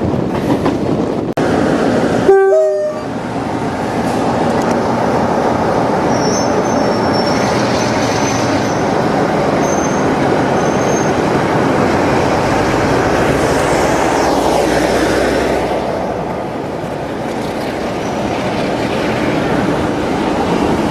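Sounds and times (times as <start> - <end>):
diesel train rumbling past: 0.0 - 20.9.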